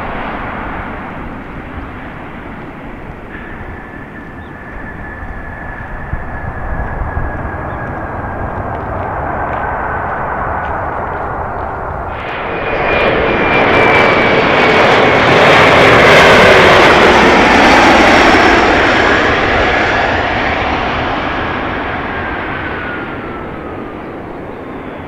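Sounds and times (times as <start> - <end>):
jet passing low overhead: 0.0 - 25.0.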